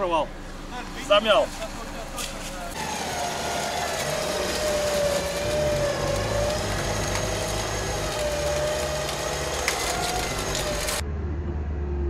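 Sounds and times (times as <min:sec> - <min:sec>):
car engine running under load: 0:00.0 - 0:12.0.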